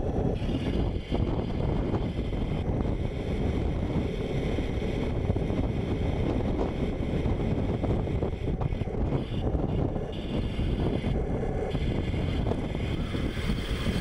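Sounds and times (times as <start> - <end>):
whine of electric motors: 0.0 - 14.0
wind buffeting microphone: 0.0 - 14.0.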